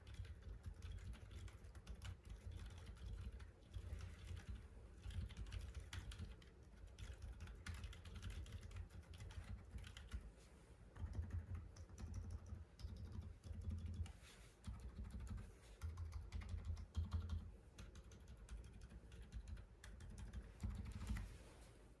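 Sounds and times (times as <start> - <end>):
typing on mechanical keyboard: 0.0 - 10.3, 11.0 - 21.3.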